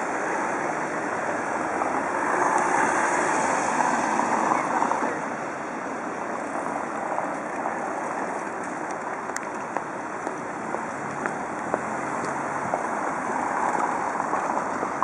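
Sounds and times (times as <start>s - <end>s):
cars driving on wet road: 0.0s - 15.0s.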